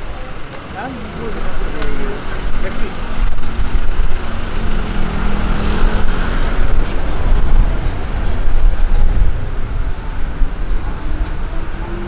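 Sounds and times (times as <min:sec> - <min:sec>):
low engine hum: 0:00.0 - 0:12.0
road traffic rumble: 0:00.0 - 0:12.0.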